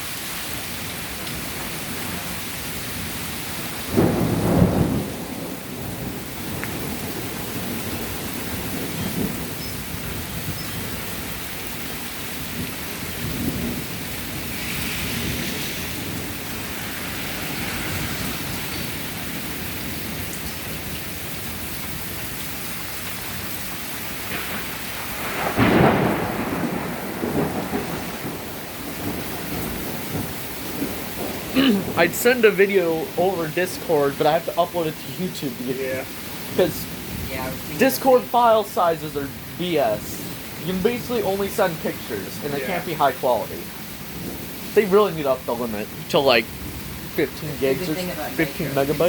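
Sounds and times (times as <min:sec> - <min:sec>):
rain pouring: 0:00.0 - 0:49.0
thunder rumbling: 0:00.9 - 0:49.0.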